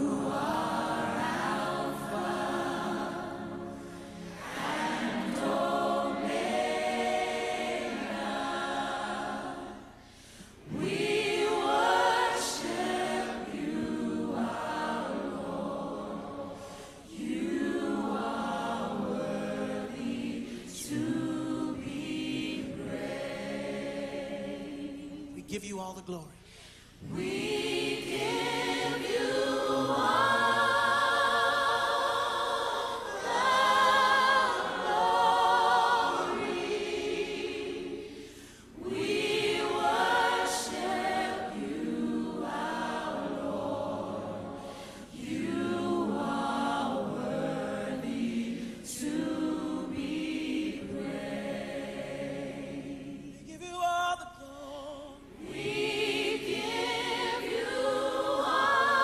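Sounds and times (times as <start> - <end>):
group singing worship chorus: 0.0 - 25.4, 26.6 - 59.0.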